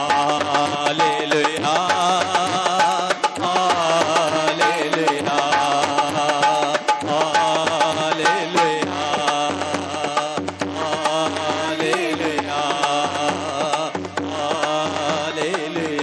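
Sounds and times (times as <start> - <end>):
hand drum rhythm: 0.0 - 16.0.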